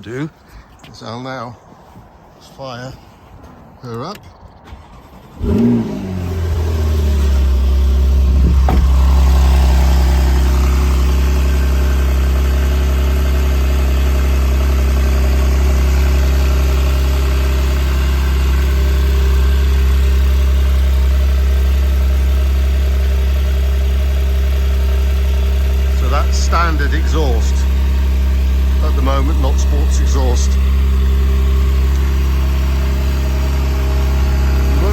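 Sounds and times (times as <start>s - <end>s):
car engine idling: 4.4s - 34.9s.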